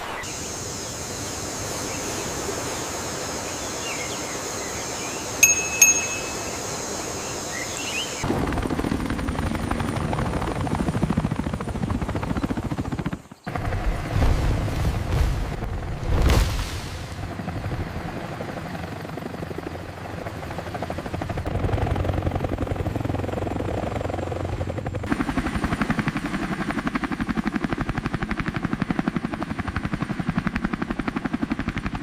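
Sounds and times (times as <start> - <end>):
helicopter rotor and engine: 0.2 - 14.2, 17.2 - 32.0.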